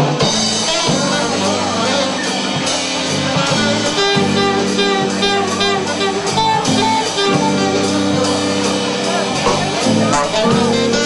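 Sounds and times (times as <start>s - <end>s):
rock band playing: 0.0s - 11.0s
saxophone melody: 0.2s - 11.0s.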